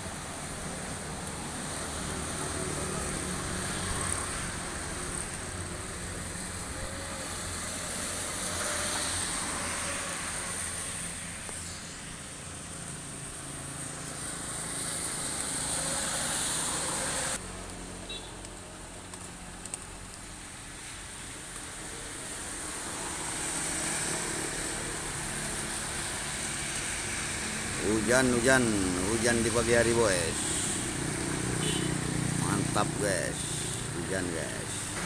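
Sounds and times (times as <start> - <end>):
traffic on wet road: 0.0 - 35.0
vehicles passing: 0.0 - 35.0.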